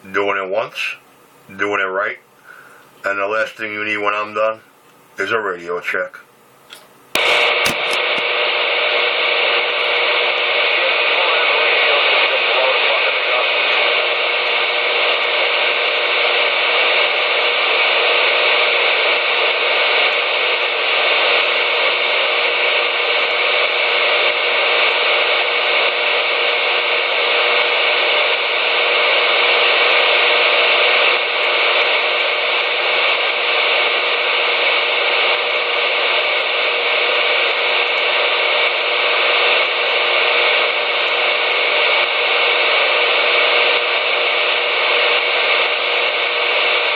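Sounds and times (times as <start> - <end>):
radio static hiss: 0.0 - 46.9.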